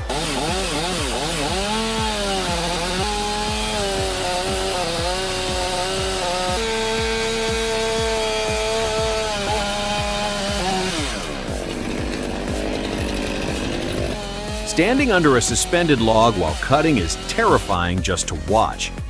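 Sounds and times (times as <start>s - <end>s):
chainsaw engine revving: 0.0s - 18.8s.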